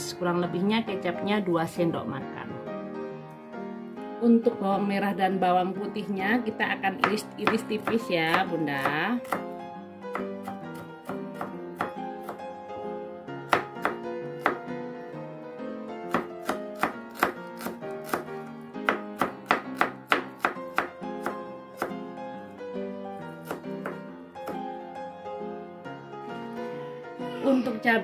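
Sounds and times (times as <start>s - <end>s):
soft background music: 0.0s - 28.0s.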